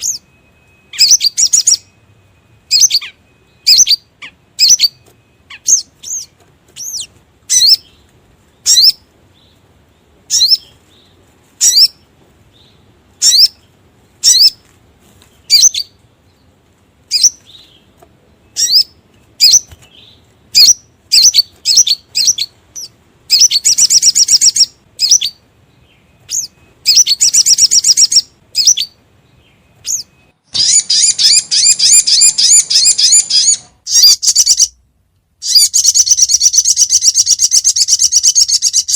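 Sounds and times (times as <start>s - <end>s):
bird chirps and trills: 0.0s - 34.8s, 35.4s - 38.9s.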